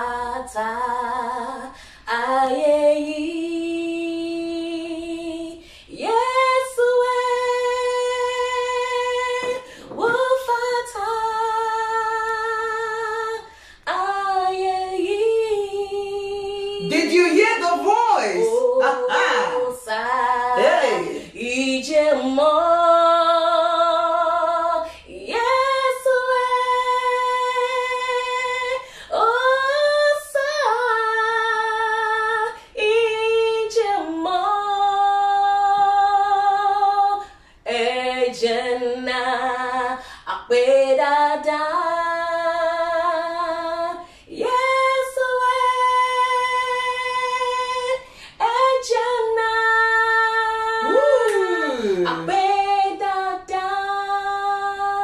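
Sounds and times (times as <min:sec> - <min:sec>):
woman singing unaccompanied: 0:00.0 - 0:55.0.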